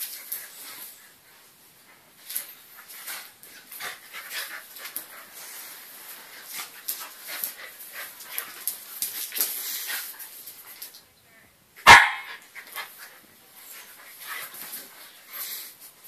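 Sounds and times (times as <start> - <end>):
dogs scuffling and panting: 0.0 - 11.1, 12.3 - 16.0.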